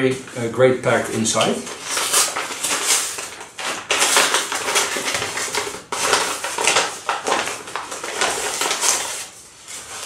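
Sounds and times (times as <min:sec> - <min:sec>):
packaging crinkling and tearing: 0:01.4 - 0:10.0.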